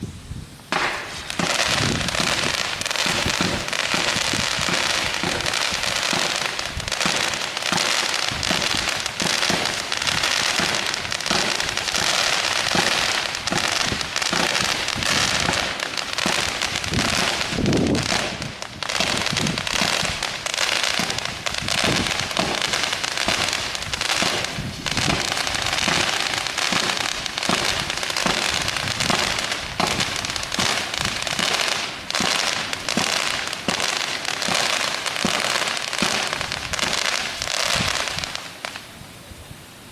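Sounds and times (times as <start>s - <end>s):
fireworks cake firing: 0.6s - 39.0s.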